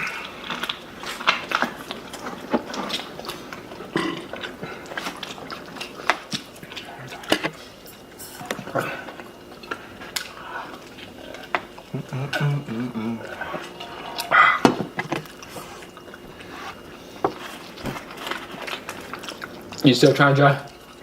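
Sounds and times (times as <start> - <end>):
people chewing: 0.0 - 21.0.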